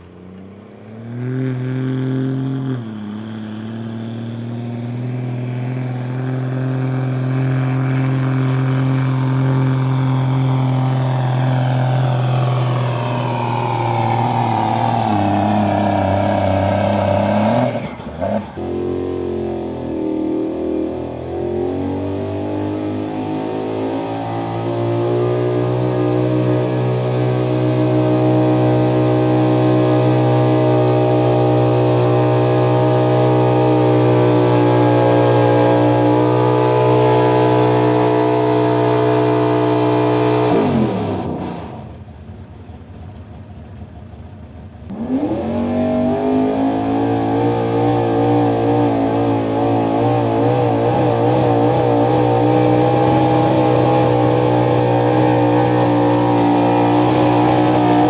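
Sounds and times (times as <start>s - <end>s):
diesel pickup engine at full throttle: 0.0s - 58.0s
second pickup engine revving: 0.0s - 58.0s.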